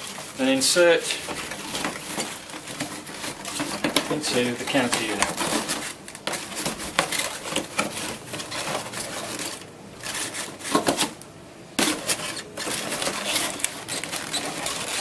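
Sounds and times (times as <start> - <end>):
cardboard scraping and rubbing: 0.0 - 11.2, 11.8 - 15.0.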